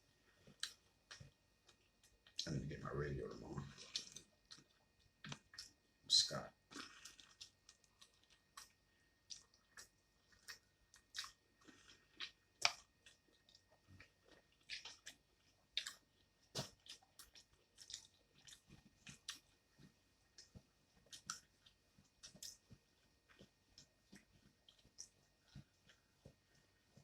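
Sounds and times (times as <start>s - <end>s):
chewing fried food crunches: 0.3s - 2.5s, 3.3s - 5.9s, 6.5s - 27.0s.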